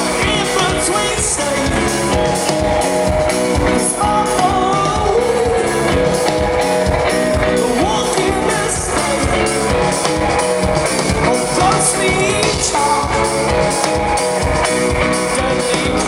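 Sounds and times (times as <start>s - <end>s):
guitar: 0.0s - 16.0s
person singing: 0.0s - 16.0s
steady drum beat: 0.0s - 16.0s.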